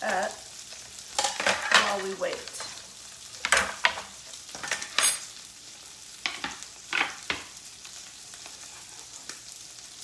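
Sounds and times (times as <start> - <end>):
steaks sizzling in a pan: 0.0 - 10.0.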